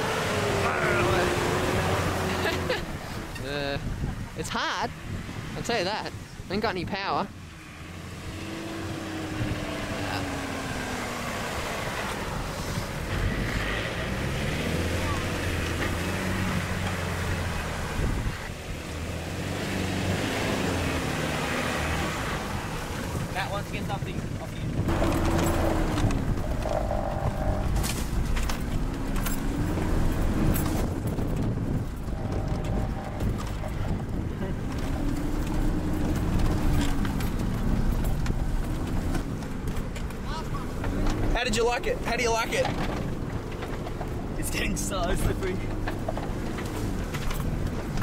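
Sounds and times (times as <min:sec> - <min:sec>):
diesel engine running: 0:00.0 - 0:04.3, 0:07.5 - 0:48.0.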